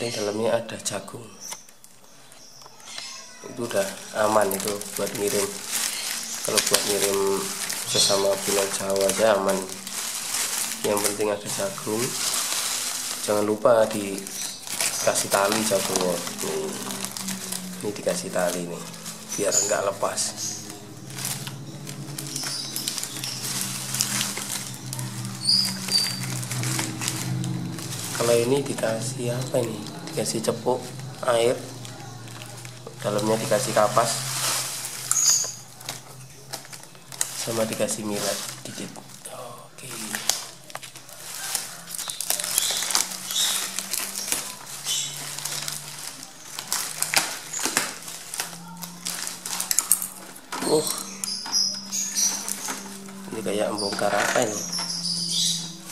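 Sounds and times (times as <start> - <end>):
packaging crinkling and rustling: 0.0 - 55.9
birds fluttering in cage: 3.6 - 55.9.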